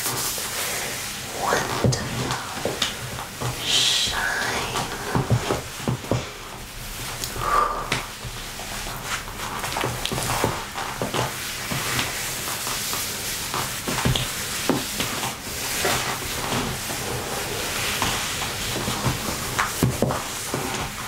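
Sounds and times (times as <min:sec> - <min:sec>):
satin fabric rustling: 0:00.0 - 0:21.0.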